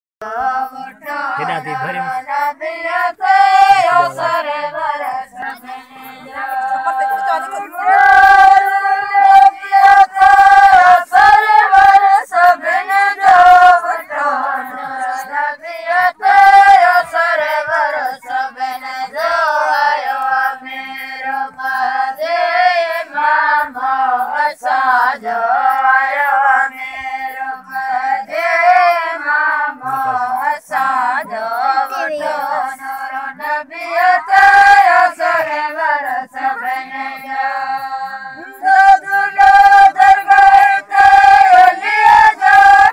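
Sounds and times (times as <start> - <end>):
women singing folk song: 0.2 - 42.9.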